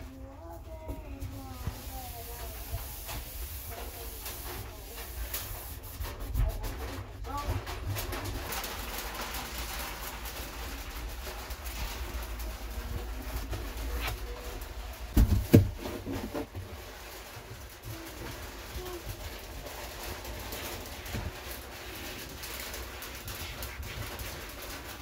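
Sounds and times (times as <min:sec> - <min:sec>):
cloth wiping a shelf: 0:00.0 - 0:25.0.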